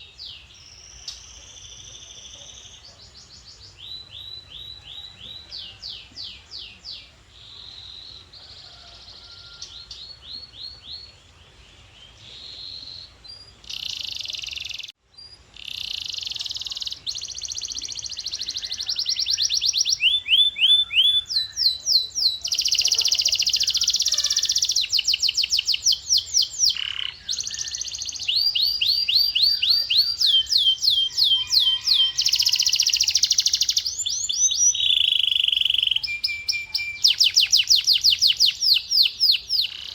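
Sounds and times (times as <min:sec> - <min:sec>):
canary singing trills: 0:00.0 - 0:11.2, 0:12.1 - 0:39.9.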